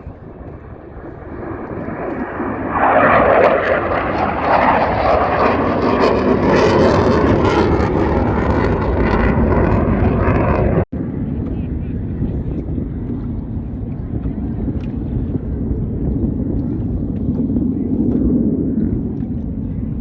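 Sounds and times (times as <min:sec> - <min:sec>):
airplane flying past: 0:00.0 - 0:20.0.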